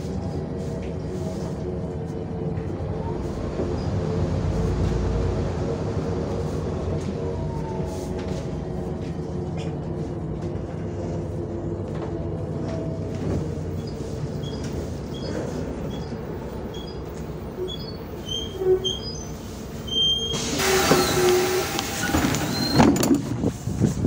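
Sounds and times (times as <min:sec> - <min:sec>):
bus engine drone: 0:00.0 - 0:24.0.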